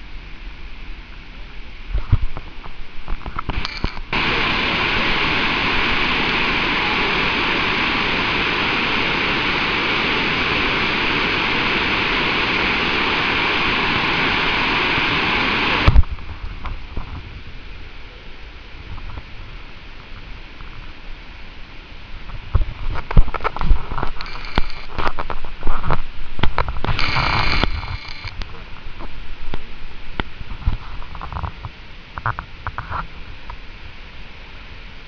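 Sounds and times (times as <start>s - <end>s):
roar of waterfall: 0.0s - 35.0s.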